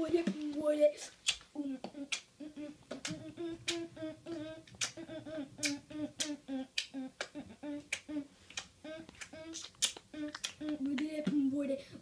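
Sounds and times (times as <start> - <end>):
beatbox percussive mouth clicks: 1.2 - 11.4
boy humming a tune: 1.6 - 12.0.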